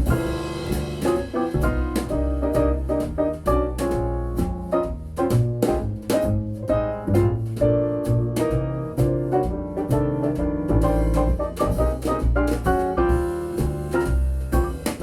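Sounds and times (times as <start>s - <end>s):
jazz piano music over loudspeaker: 0.0s - 15.0s.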